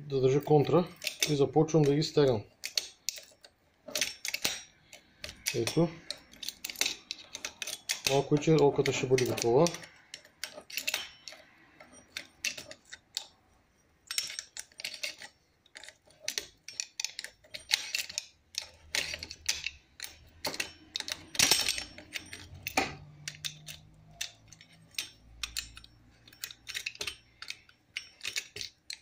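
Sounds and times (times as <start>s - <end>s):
spanner and pliers clinking on bolts: 0.0s - 29.0s.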